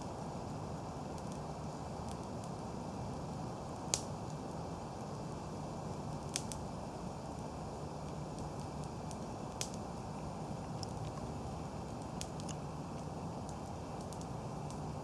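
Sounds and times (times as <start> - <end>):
campfire burning: 0.0 - 15.0
fire crackling pops: 0.0 - 15.0.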